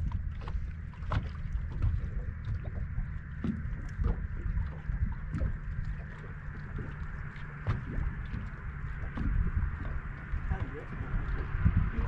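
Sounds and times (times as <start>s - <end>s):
water lapping against hull: 0.0s - 12.0s
wind buffeting microphone: 0.0s - 12.0s.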